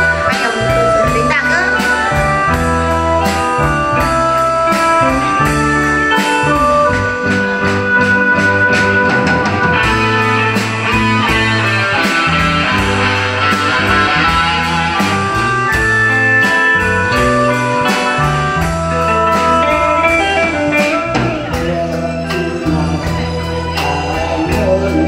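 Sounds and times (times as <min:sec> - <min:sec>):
drum beat: 0:00.0 - 0:24.7
electric guitar: 0:00.0 - 0:25.0
keyboard and bass: 0:00.0 - 0:25.0.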